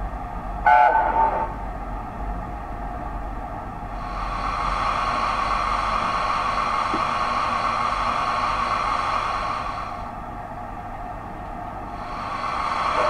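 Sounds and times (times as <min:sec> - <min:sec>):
model train humming and rumbling: 0:00.0 - 0:13.0.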